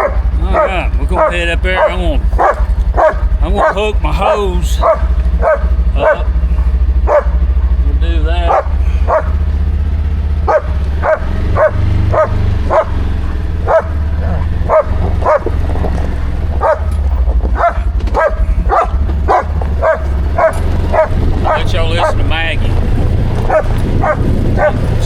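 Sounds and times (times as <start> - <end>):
dog barking: 0.0 - 7.8, 8.4 - 9.6, 10.4 - 25.0
vehicle engine humming: 0.0 - 25.0.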